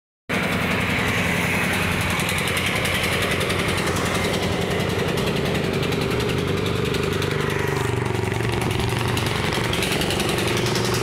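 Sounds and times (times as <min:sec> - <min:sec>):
tractor diesel engine idling: 0:00.3 - 0:11.0.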